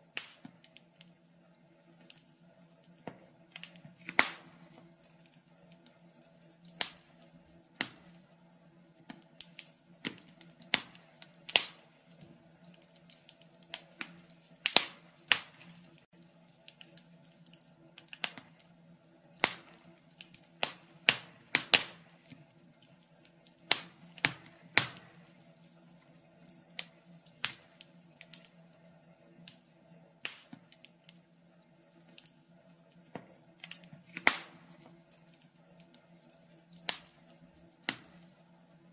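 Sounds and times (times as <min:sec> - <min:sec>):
fire pops and snaps: 0:00.0 - 0:31.3, 0:31.9 - 0:38.7
log fire crackling: 0:00.0 - 0:38.9.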